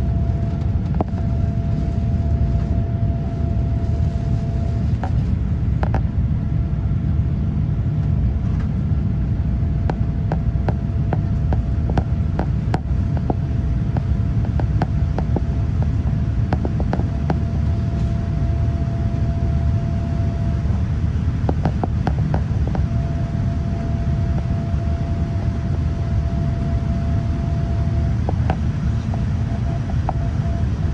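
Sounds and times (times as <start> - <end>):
airliner engine and airflow rumble: 0.0 - 30.9
faint steady whine: 0.0 - 30.9.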